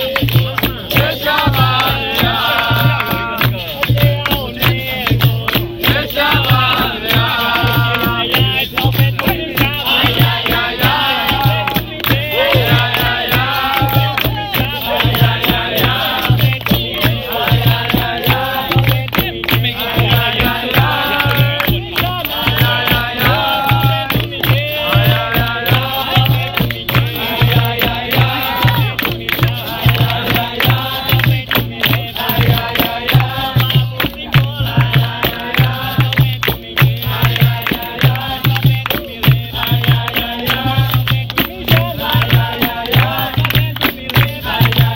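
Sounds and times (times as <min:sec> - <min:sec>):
group singing: 0:00.0 - 0:44.9
rattling hand percussion: 0:00.0 - 0:44.9
steady drum beat: 0:00.0 - 0:44.9.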